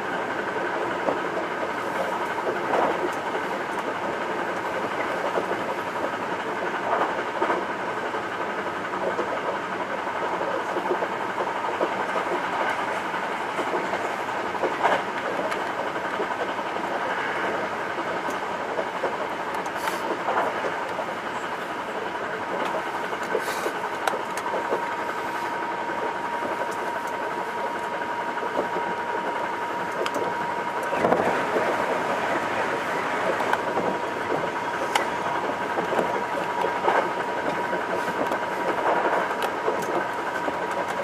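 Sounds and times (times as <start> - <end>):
electric train rumbling: 0.0 - 41.0
rail clicks: 0.0 - 41.0.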